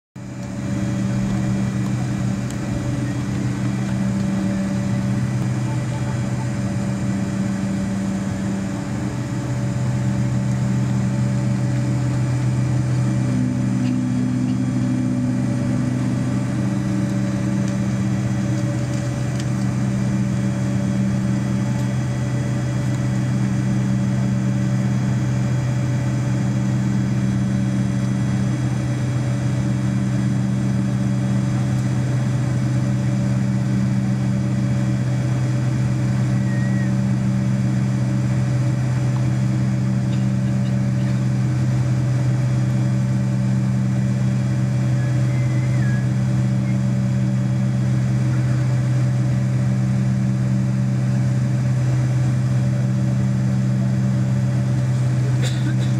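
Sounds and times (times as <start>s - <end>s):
jet engines idling: 0.2s - 55.9s.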